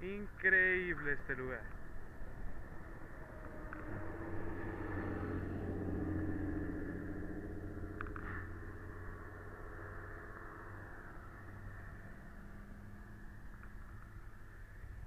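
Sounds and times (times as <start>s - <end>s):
vehicle engine running: 1.6s - 15.0s.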